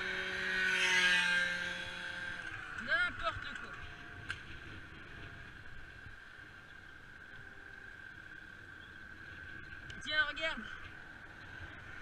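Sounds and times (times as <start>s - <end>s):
bicycle rolling on asphalt: 0.0s - 12.0s
faint wind: 0.0s - 12.0s
steady high whine: 0.0s - 12.0s.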